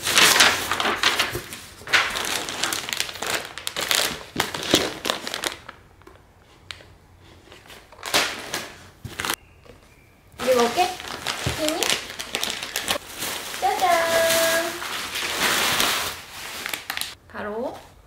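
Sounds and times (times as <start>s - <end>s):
packaging crinkling: 0.0s - 6.8s, 7.7s - 9.4s, 10.4s - 17.2s.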